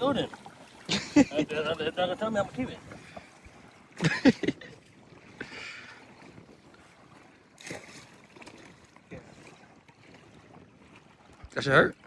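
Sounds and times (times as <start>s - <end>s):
low wind: 0.0s - 12.0s
water noise: 0.0s - 12.0s.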